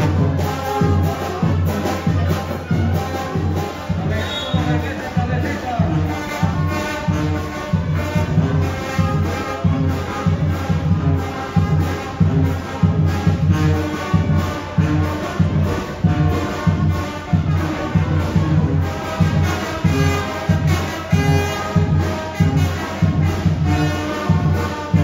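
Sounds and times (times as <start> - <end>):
brass band music: 0.0 - 25.0.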